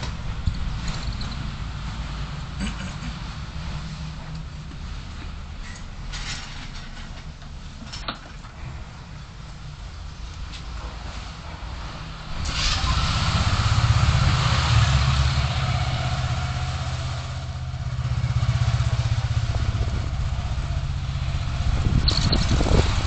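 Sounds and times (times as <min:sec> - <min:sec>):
car engine drone: 0:00.0 - 0:23.0
road noise: 0:00.0 - 0:23.0.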